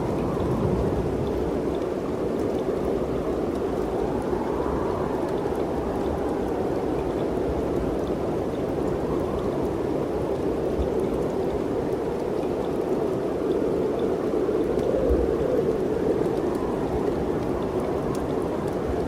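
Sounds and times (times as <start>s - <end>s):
wind rushing through forest: 0.0s - 19.0s.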